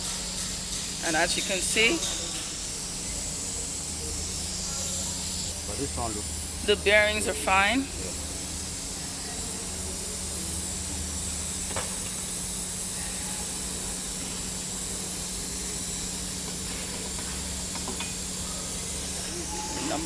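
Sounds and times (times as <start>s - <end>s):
workshop background hiss: 0.0s - 20.0s.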